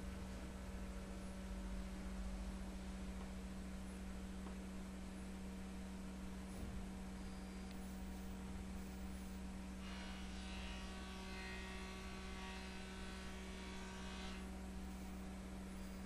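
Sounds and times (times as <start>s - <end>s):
faint high whine: 0.0s - 16.0s
low electrical hum: 0.0s - 16.0s.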